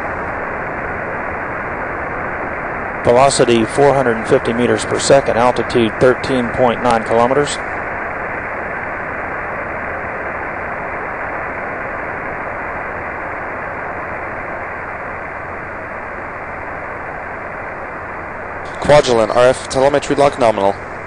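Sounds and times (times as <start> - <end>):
muffled rocket engine rushing: 0.0 - 21.0.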